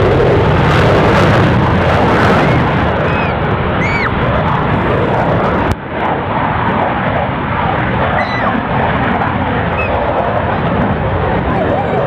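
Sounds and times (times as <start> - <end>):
fighter jet roar: 0.0 - 12.0.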